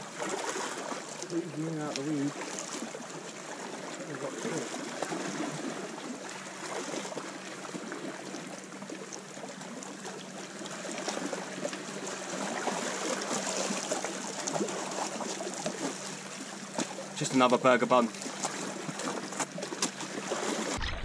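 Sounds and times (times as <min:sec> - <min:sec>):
sea water washing around rocks: 0:00.0 - 0:21.0.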